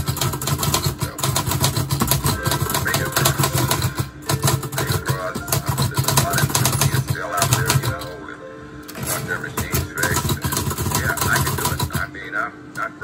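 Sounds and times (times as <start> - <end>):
manual typewriter typing: 0.0 - 8.2, 8.9 - 12.1.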